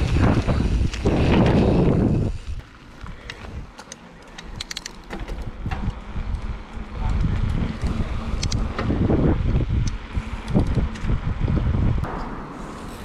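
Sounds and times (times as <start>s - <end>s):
wind buffeting microphone: 0.0s - 3.8s, 4.5s - 13.0s
mountain bike rolling on dirt: 0.0s - 12.1s.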